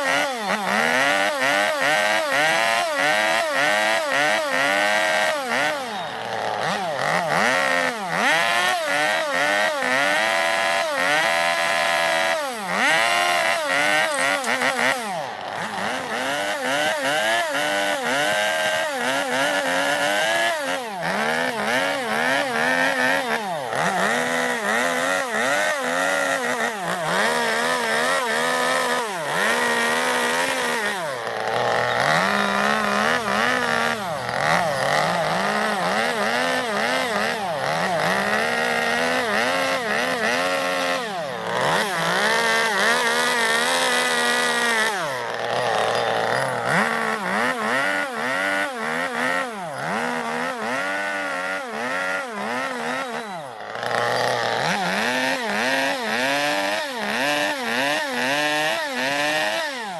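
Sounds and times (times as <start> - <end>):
chainsaw carving wood: 0.0 - 59.9.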